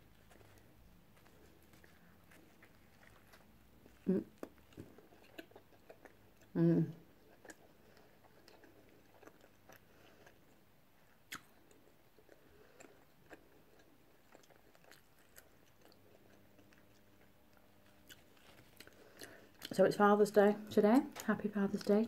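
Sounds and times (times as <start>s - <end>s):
chewing and biting food: 0.0s - 19.8s.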